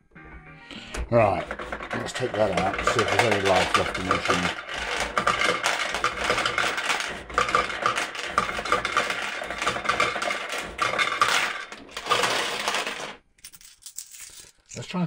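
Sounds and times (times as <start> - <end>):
coins clinking into metal tray: 1.4 - 14.8.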